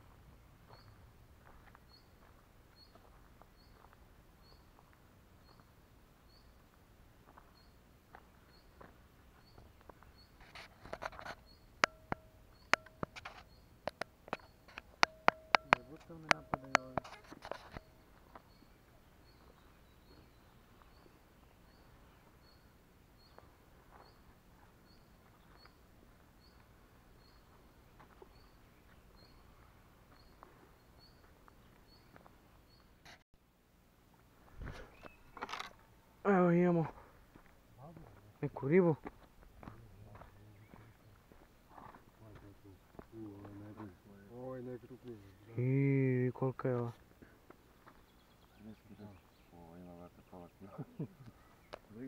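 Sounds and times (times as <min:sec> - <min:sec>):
faint bird chirps: 0:00.3 - 0:33.2, 0:34.6 - 0:36.8, 0:39.7 - 0:46.5, 0:47.2 - 0:52.0.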